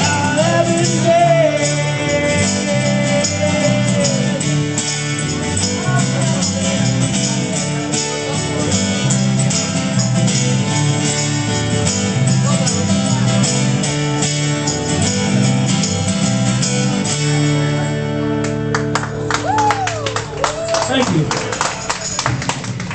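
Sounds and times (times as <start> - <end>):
live band playing: 0.0 - 22.9
strummed guitars: 0.0 - 22.9.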